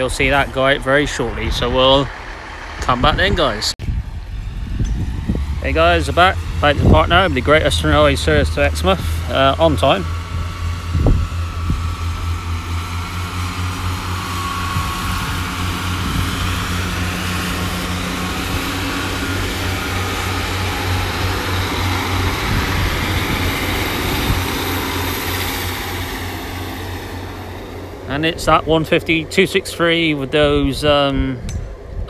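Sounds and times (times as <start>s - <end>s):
diesel engine throb: 0.0s - 32.0s
wheels on rails: 0.0s - 32.0s.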